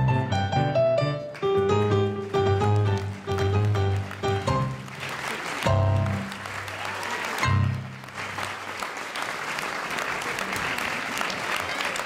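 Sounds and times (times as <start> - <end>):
audience applause: 1.3 - 12.0.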